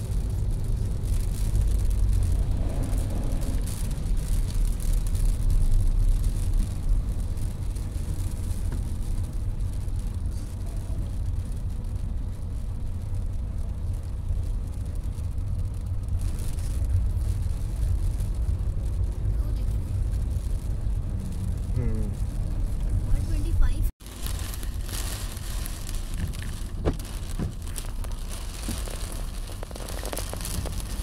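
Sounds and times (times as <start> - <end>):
car engine and tyres rumbling: 0.0 - 31.0
water hissing under tyres: 0.0 - 31.0.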